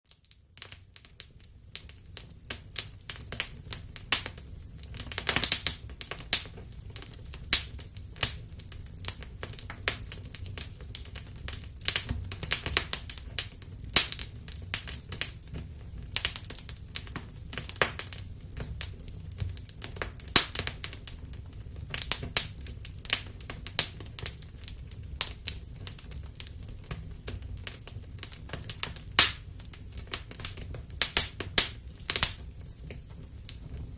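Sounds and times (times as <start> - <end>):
wood fire crackling and popping: 0.1 - 33.9
low rumble of flames: 0.2 - 33.9.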